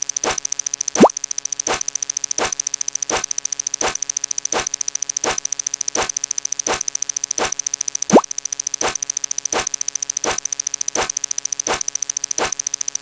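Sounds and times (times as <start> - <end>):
sharp electronic click: 0.0 - 13.0.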